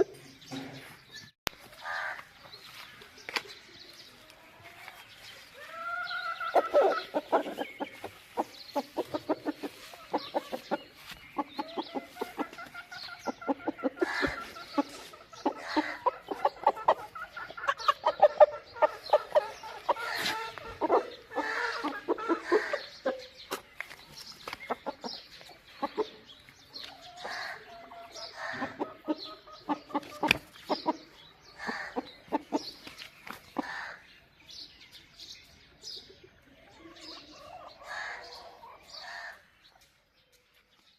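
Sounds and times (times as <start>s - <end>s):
chickens clucking and cackling: 0.0s - 40.9s.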